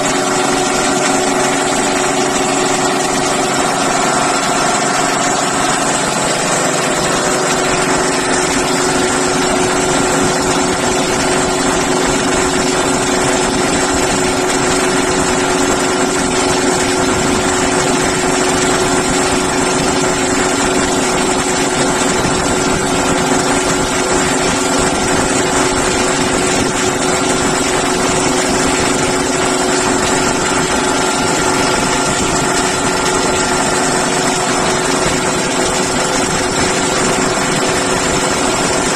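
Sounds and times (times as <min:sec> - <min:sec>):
air compressor drone: 0:00.0 - 0:38.9.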